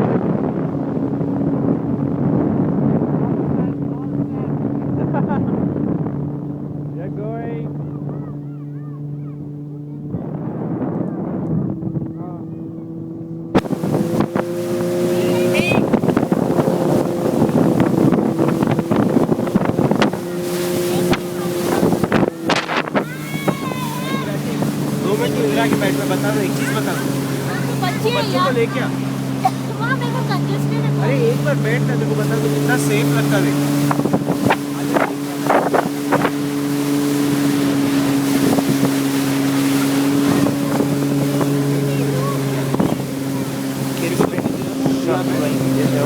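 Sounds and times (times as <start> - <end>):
motorboat engine running: 0.0 - 46.0
wind buffeting microphone: 0.0 - 46.0.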